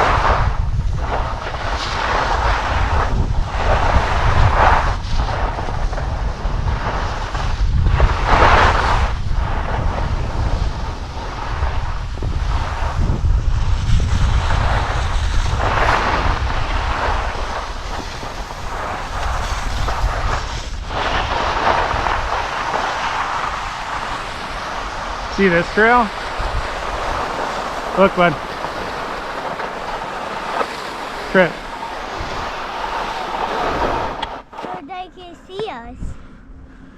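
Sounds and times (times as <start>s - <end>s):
skis sliding on snow: 0.0s - 35.6s
wind rushing over microphone: 0.0s - 36.9s.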